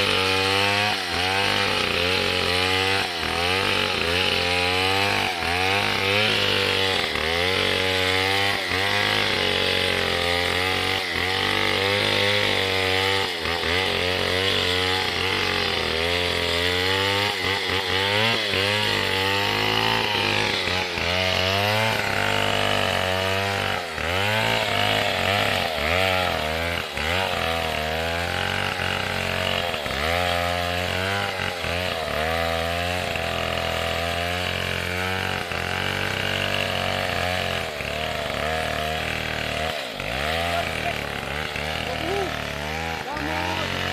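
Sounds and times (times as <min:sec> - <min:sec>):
chainsaw running: 0:00.0 - 0:43.9.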